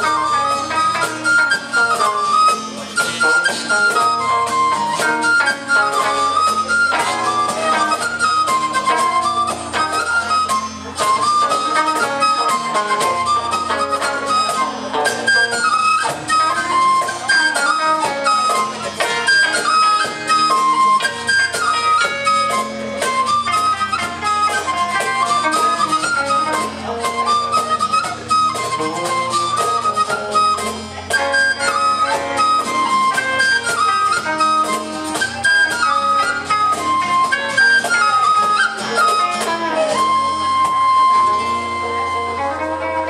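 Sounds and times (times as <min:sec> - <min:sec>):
percussive beat: 0:00.0 - 0:41.5
strummed guitars: 0:00.0 - 0:43.0
whistle melody: 0:00.0 - 0:43.0.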